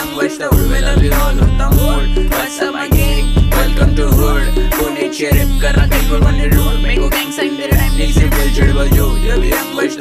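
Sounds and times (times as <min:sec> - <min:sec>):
hip-hop beat with heavy bass: 0:00.0 - 0:10.0
vocals over beat: 0:00.0 - 0:10.0.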